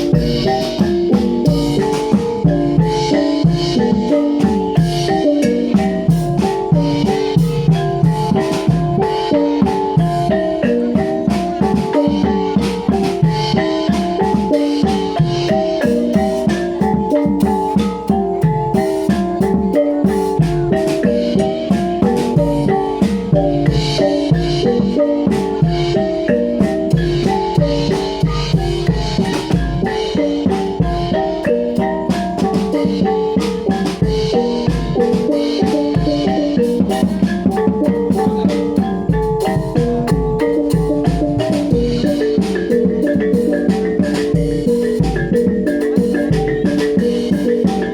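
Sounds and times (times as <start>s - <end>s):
bronze percussion melody: 0.0s - 47.9s
gamelan ensemble playing: 0.0s - 47.9s
hand drum strokes: 0.0s - 47.9s.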